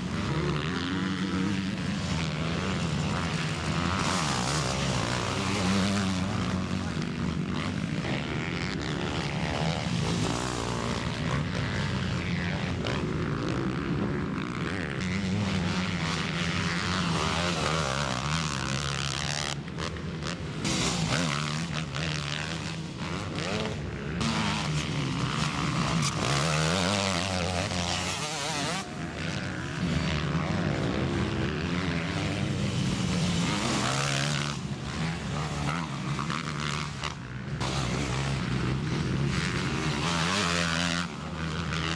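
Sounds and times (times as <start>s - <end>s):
motocross engines revving: 0.0s - 41.9s.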